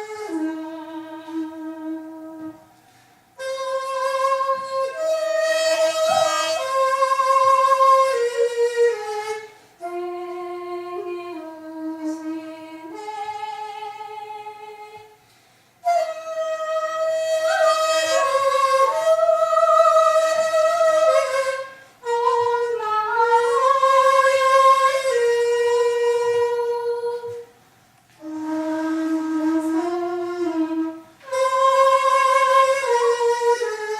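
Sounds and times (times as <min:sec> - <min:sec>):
bamboo flute slow solo melody: 0:00.0 - 0:15.2, 0:15.8 - 0:27.6, 0:28.2 - 0:33.9.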